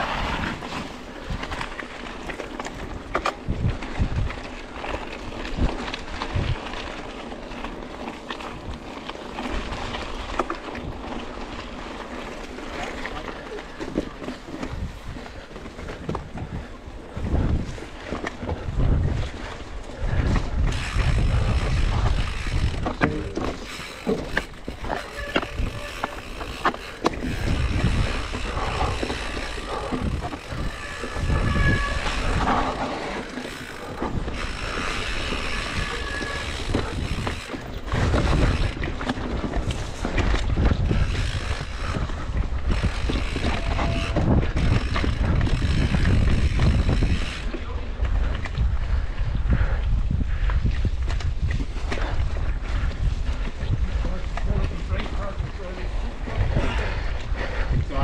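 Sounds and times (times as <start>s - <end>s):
tyres on dirt: 0.0s - 49.2s
bike rattling: 0.0s - 58.0s
wind buffeting microphone: 0.0s - 58.0s.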